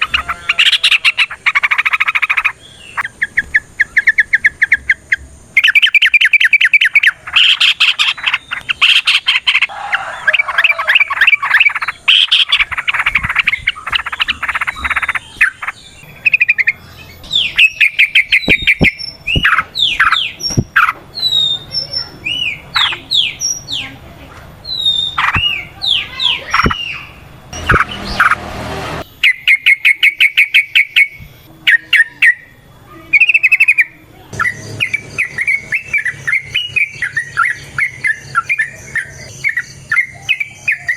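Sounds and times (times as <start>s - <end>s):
bulbuls chattering and chirping: 0.0s - 40.9s.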